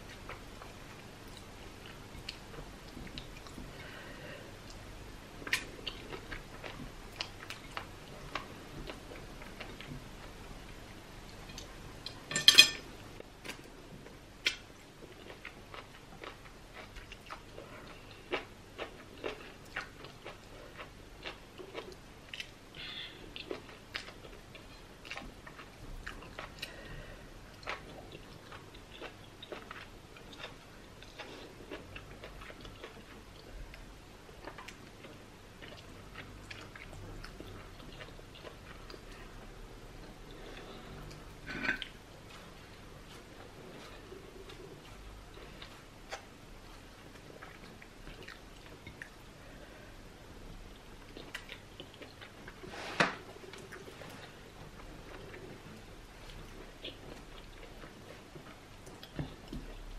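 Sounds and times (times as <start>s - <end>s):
chewing food: 5.4s - 12.2s, 13.4s - 22.6s, 23.3s - 49.8s, 50.4s - 59.9s.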